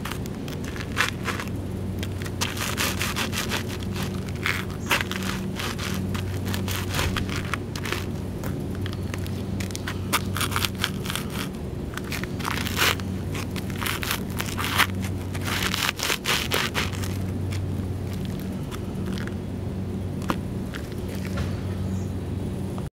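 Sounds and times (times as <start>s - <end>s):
shoes crunching dry cereal: 0.0s - 19.4s, 20.2s - 21.4s
low hum: 0.0s - 22.9s.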